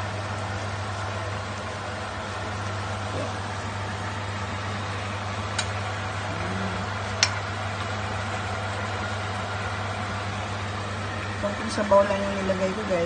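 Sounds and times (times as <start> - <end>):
food simmering in a wok: 0.0 - 11.4
stove hum and hiss: 0.0 - 13.0.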